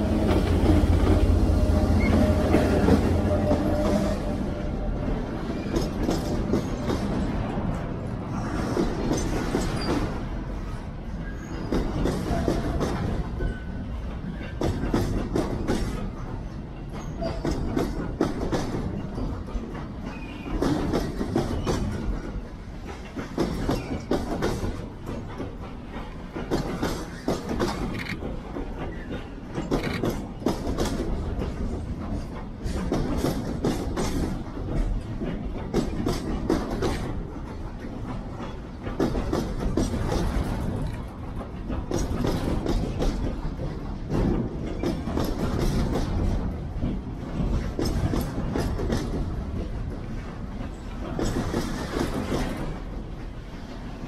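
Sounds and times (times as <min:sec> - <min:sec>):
freight train rumble: 0:00.0 - 0:54.0
train wheels clacking on rail joints: 0:00.0 - 0:54.0.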